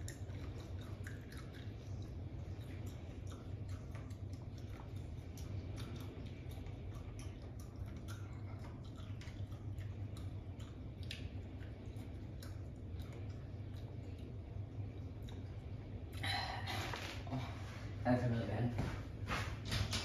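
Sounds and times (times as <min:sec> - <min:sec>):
person chewing: 0:00.0 - 0:16.2
steady low hum: 0:00.0 - 0:20.0.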